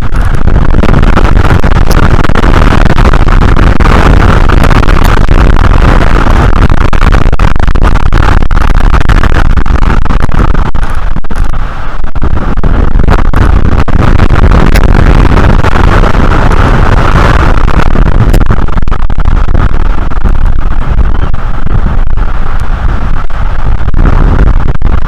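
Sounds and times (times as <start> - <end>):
strong wind on microphone: 0.0 - 25.0.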